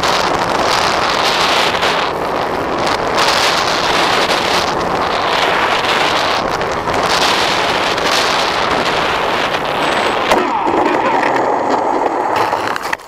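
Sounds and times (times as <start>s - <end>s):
plane scraping and rattling on ground: 0.0s - 13.0s
wind over microphone: 0.0s - 13.0s.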